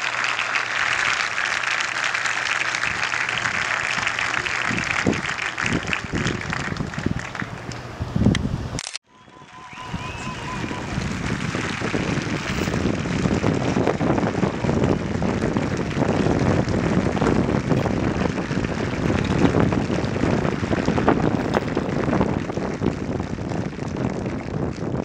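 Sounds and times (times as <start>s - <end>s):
crowd applauding: 0.0s - 7.9s, 9.1s - 25.0s.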